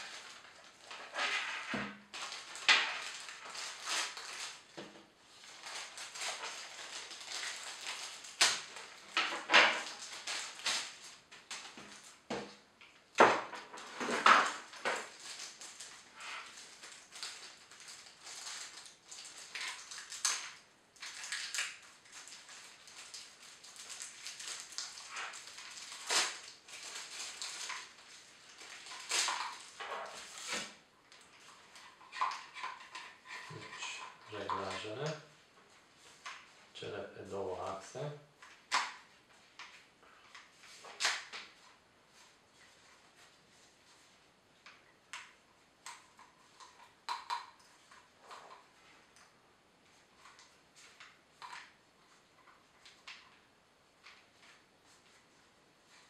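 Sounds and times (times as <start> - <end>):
plastic film crinkling: 0.0 - 56.0.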